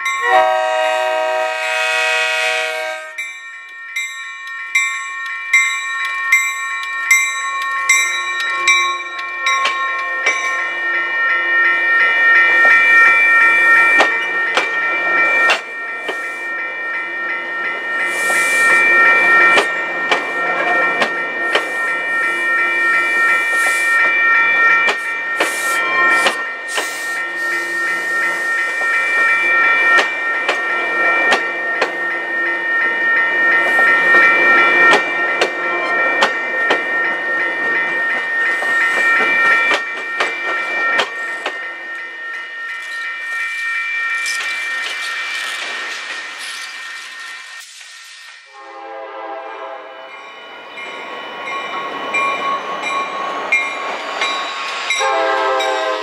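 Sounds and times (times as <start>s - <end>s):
crossing bells ringing: 0.0s - 56.0s
train rumbling past: 7.8s - 56.0s.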